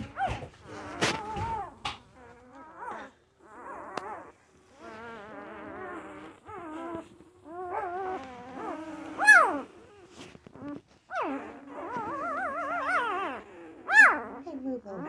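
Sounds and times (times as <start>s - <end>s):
puppies whining and squeaking: 0.0s - 15.0s.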